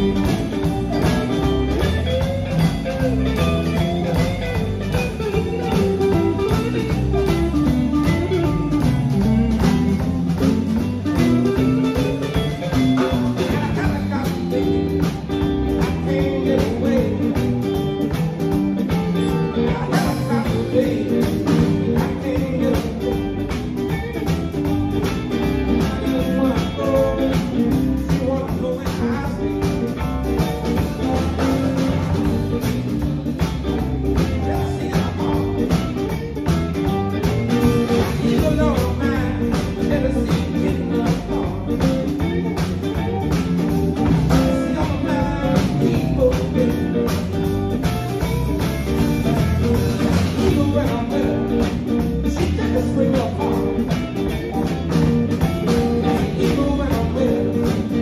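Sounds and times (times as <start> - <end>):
live band with electric guitars: 0.0 - 58.0.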